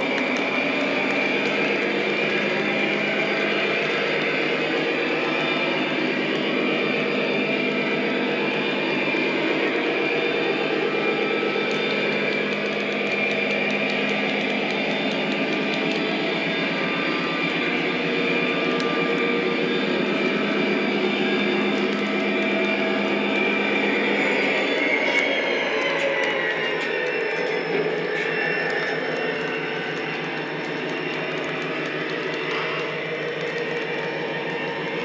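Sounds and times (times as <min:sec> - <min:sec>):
model train running hum: 0:00.0 - 0:35.0.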